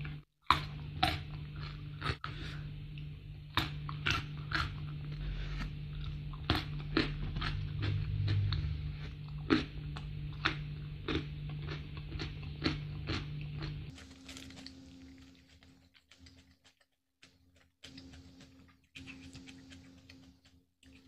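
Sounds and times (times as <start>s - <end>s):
low steady hum: 0.0s - 21.0s
crisp chewing crunches: 3.5s - 21.0s.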